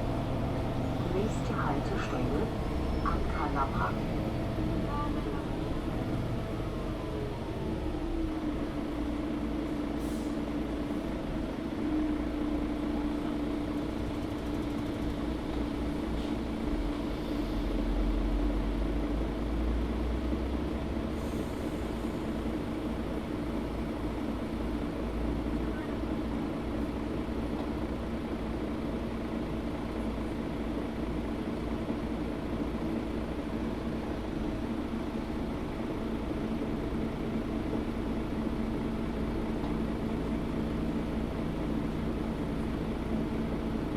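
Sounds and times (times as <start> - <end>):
bus engine drone: 0.0 - 43.9.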